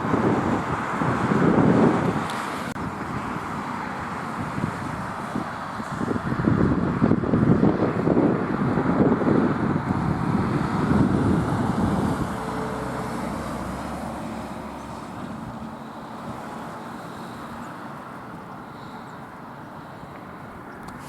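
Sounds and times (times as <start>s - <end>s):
distant traffic hum: 0.0s - 21.0s
road vehicle passing: 0.0s - 21.0s.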